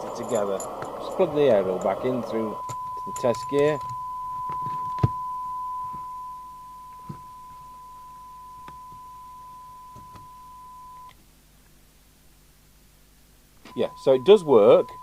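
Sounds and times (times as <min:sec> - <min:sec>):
radio speaker test tone: 0:00.0 - 0:11.1, 0:13.7 - 0:15.0.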